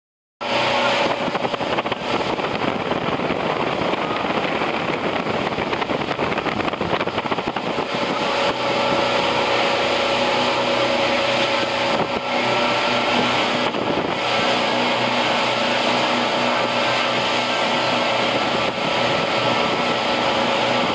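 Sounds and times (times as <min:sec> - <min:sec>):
boat engines droning: 0:00.4 - 0:20.9
rush of wind and water: 0:00.4 - 0:20.9.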